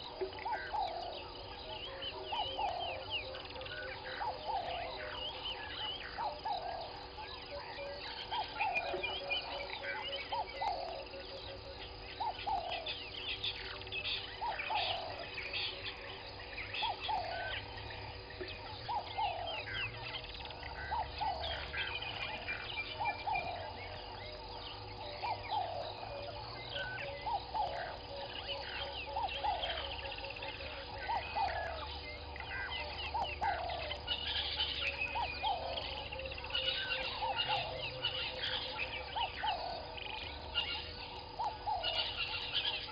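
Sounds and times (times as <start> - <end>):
birds chirping and twittering: 0.0 - 42.9.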